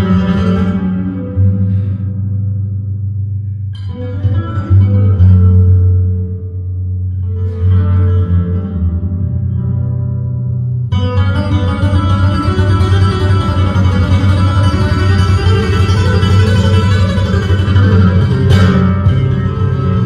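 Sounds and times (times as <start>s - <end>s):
flamenco guitar playing: 0.0s - 20.0s.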